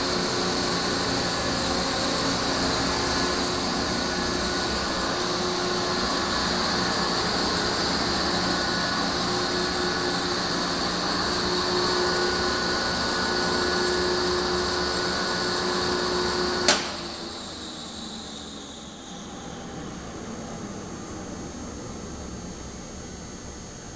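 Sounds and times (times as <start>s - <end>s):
mixer machine hum and whine: 0.0s - 23.9s.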